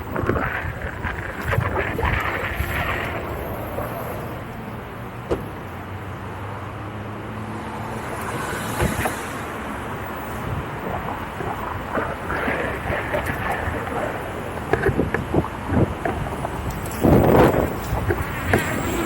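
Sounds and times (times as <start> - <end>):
wind and road noise: 0.0 - 19.0
passing vehicle engine hum: 2.2 - 14.7, 15.5 - 19.0.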